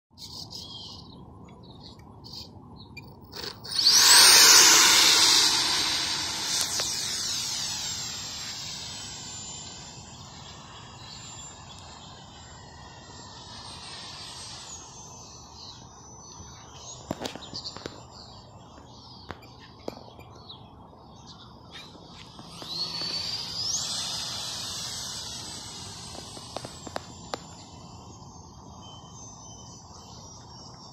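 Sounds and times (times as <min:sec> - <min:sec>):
electric ducted fan whine: 0:01.2 - 0:17.3, 0:20.8 - 0:30.7.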